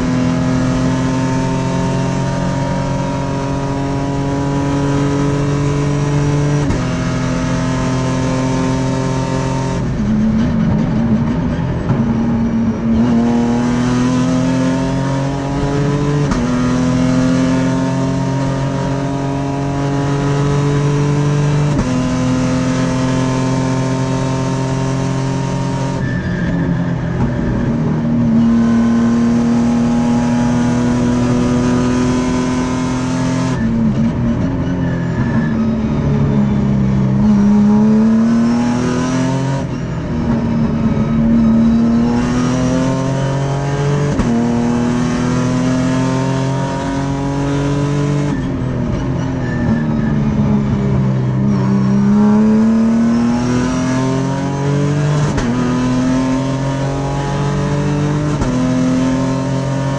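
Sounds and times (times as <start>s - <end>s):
racing car engine: 0.0s - 59.9s.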